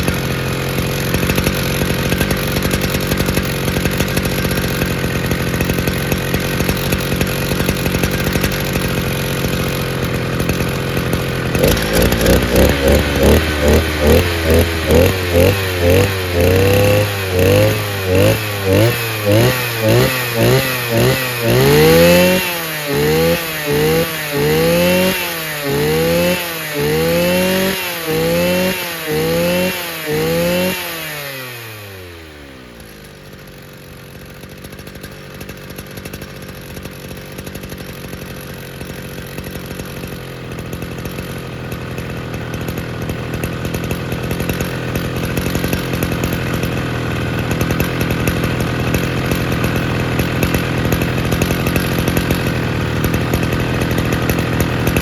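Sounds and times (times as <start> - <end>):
brush cutter engine revving: 0.0 - 55.0.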